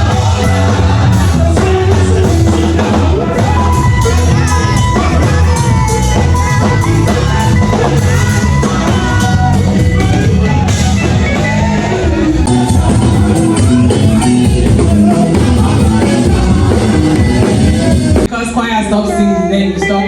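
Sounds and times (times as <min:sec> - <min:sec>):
band with drums and guitar: 0:00.0 - 0:18.3
person singing: 0:00.0 - 0:18.3.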